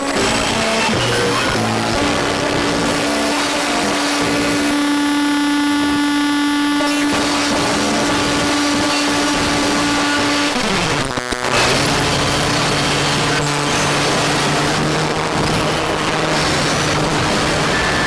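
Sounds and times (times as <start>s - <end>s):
distorted noise drone: 0.0s - 18.0s.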